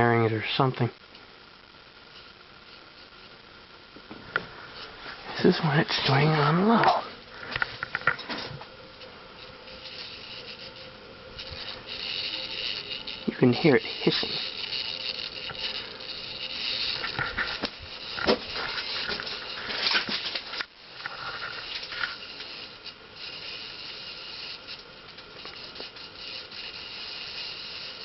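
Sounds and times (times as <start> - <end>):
ceiling fan motor hissing: 1.6 - 28.0.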